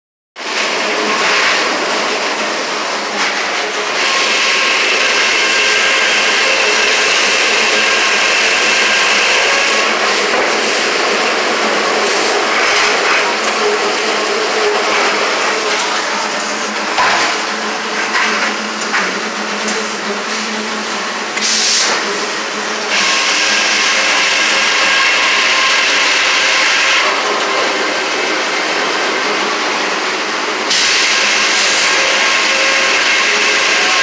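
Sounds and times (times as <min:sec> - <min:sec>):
sawmill machinery running: 0:00.4 - 0:34.0
saw whining through log: 0:00.7 - 0:34.0.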